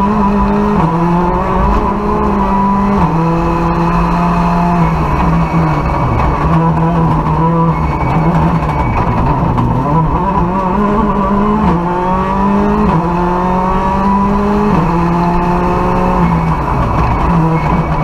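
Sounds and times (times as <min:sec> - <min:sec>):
rally car engine accelerating: 0:00.0 - 0:18.0.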